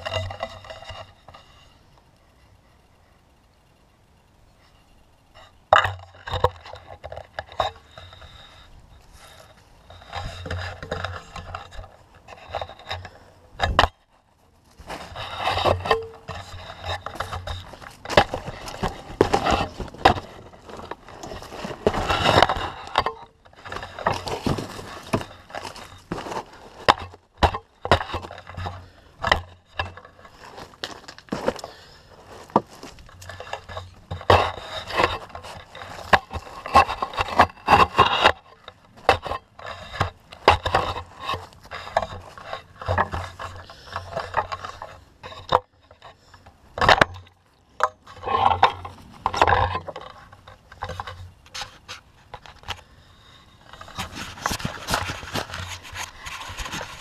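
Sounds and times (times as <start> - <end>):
spear scraping cardboard and wood: 5.4 - 13.9, 14.7 - 47.3, 48.0 - 52.8, 53.6 - 57.0.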